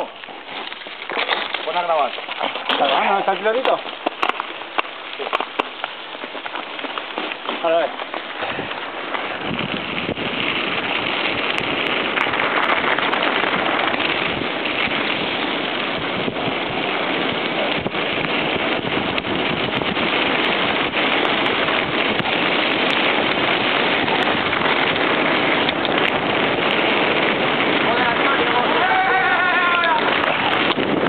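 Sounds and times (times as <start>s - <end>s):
bike tyres rolling: 0.0s - 31.0s
wind on microphone: 1.7s - 31.0s.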